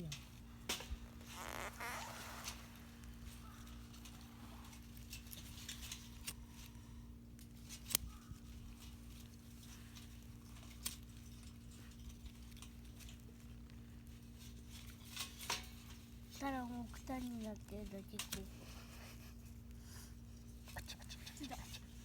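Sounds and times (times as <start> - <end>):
small clicks and snaps: 0.1 - 13.8, 14.4 - 18.5.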